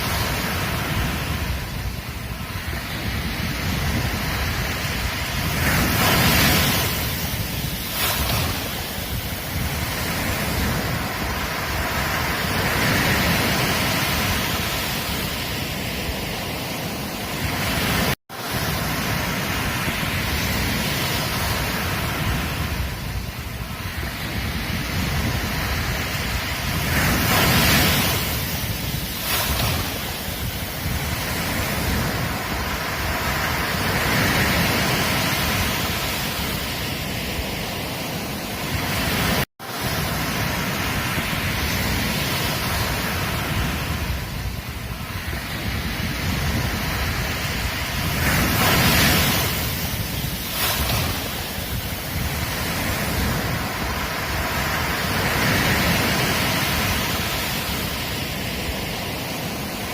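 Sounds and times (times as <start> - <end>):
waves breaking on a beach: 0.0 - 59.9
wind rumbling on microphone: 0.0 - 59.9.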